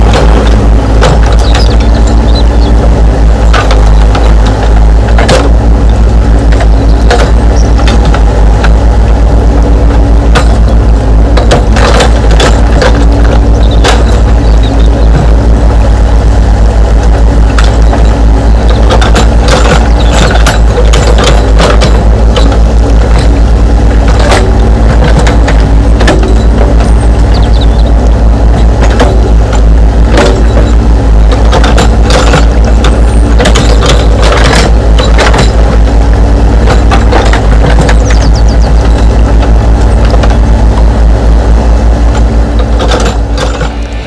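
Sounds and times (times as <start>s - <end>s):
gravel clicks: 0.0s - 44.0s
simulated diesel engine throb: 0.0s - 44.0s.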